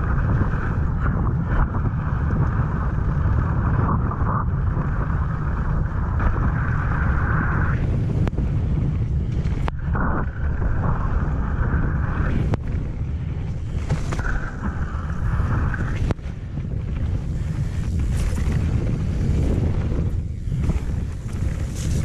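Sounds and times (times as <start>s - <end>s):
bike tyres on gravel: 0.0s - 22.0s
wind buffeting microphone: 0.0s - 22.0s.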